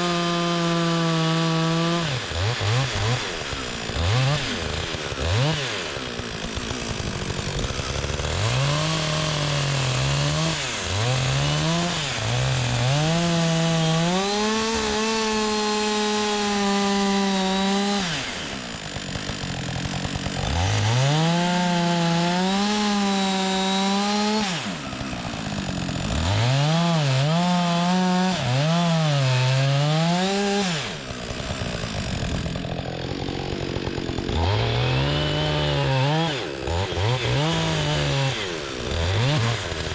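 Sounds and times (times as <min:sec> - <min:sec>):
chainsaw cutting into log: 0:00.0 - 0:39.9.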